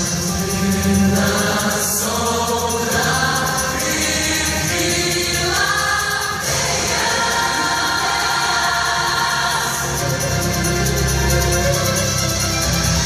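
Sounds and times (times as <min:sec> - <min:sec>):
vocal group singing in harmony: 0:00.0 - 0:11.2.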